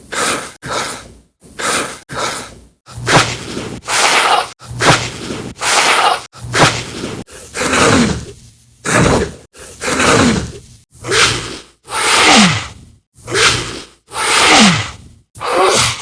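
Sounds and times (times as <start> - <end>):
human breaths sighs and grunts: 0.0 - 16.0.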